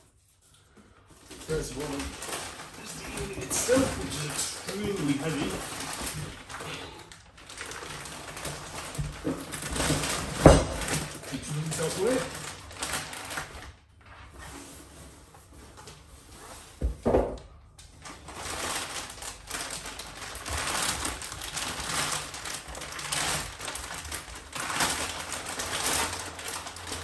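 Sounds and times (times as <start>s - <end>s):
packaging rustling: 0.1s - 16.8s, 17.8s - 27.0s.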